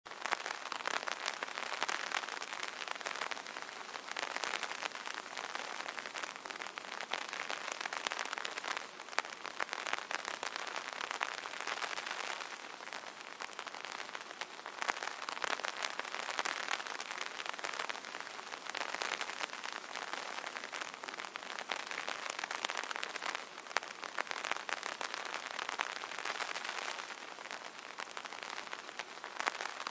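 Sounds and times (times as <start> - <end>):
rain pattering on umbrella: 0.1 - 29.9.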